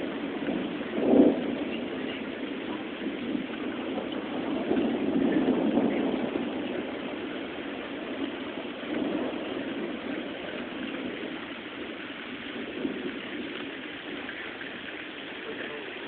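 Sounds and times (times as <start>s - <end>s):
distant thunder rumbling: 0.0s - 16.0s
steady rain: 0.0s - 16.0s.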